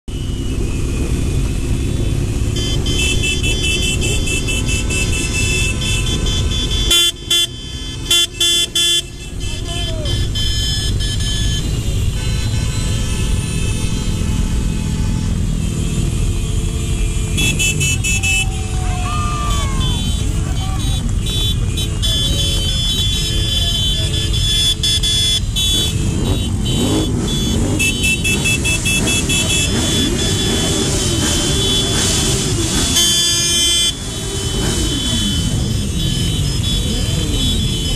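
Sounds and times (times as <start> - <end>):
loud horn blasts: 0.1 - 37.9
motorcycle engine rumble: 0.1 - 37.9.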